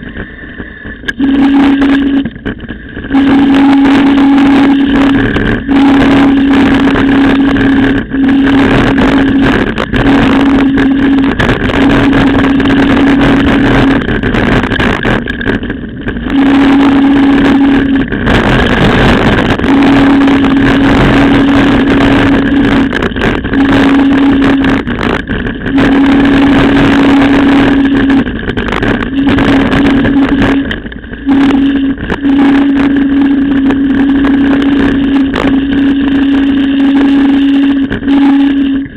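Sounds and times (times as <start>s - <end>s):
steady hum: 0.0s - 38.9s
wind on microphone: 0.0s - 38.9s.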